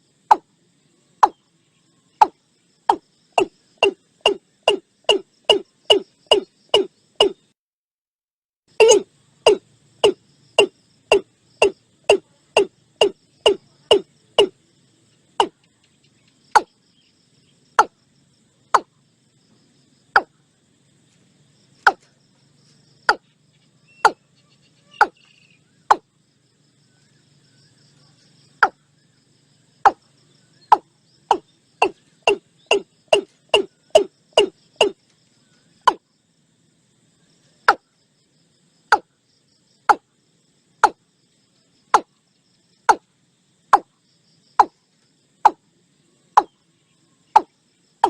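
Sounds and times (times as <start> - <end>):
high insect hiss: 0.0 - 7.6, 8.7 - 48.0.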